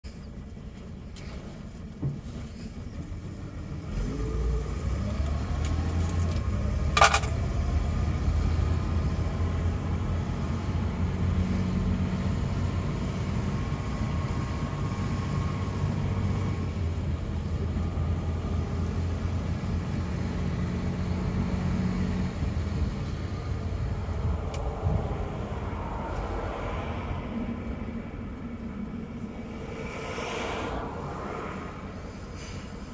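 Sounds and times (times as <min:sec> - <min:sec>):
car engine from inside cabin: 0:00.1 - 0:32.9.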